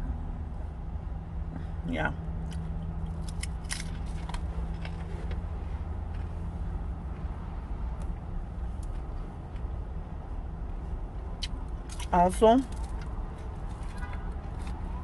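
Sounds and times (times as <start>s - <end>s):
car rumble: 0.0s - 15.0s.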